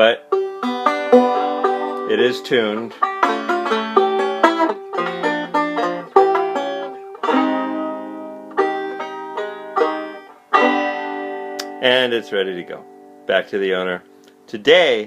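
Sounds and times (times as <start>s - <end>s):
banjo plucked notes: 0.0s - 14.5s
banjo chords ringing: 0.0s - 15.0s.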